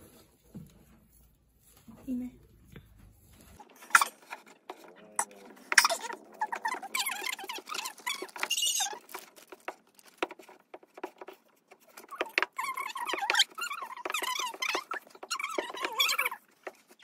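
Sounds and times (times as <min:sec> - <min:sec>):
dough kneading squelches: 0:00.0 - 0:17.0.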